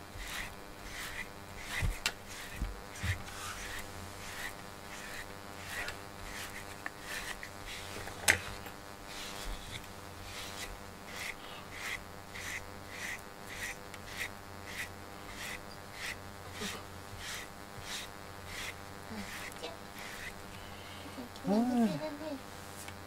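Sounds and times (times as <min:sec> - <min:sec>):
brush rasping through cat fur: 0:00.0 - 0:20.6.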